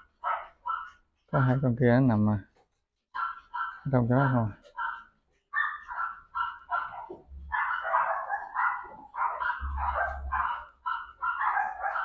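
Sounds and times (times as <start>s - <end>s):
puppies yapping and barking: 0.0s - 1.6s, 3.1s - 12.0s.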